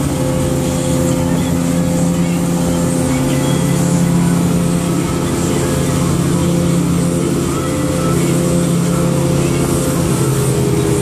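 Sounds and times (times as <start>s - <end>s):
outboard motors droning: 0.0s - 11.0s
rushing water: 0.0s - 11.0s
wind: 0.0s - 11.0s.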